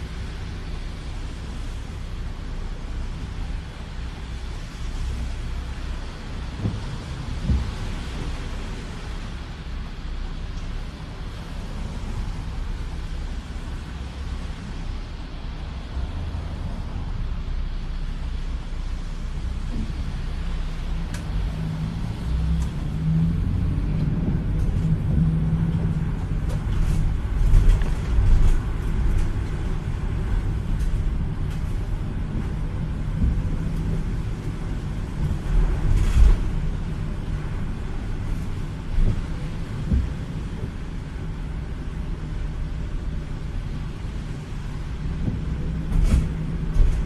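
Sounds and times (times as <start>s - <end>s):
car engine and tyres rumbling: 0.0s - 47.0s.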